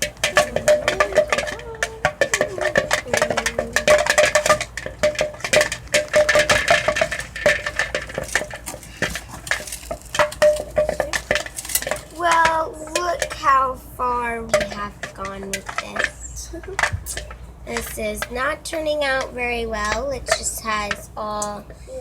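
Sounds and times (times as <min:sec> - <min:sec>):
spoon stirring in a bowl: 0:00.0 - 0:21.8.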